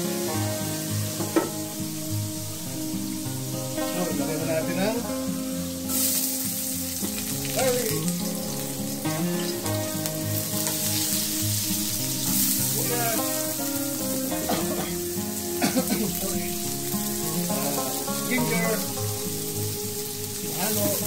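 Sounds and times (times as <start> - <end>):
background music: 0.0 - 21.0
garlic sizzling in hot oil: 0.0 - 21.0
onion crackling in oil: 0.2 - 21.0.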